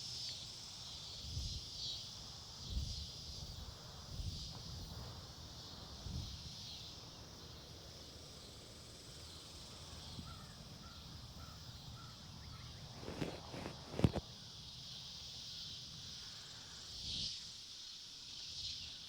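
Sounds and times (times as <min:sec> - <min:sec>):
insects hissing: 0:00.0 - 0:19.0.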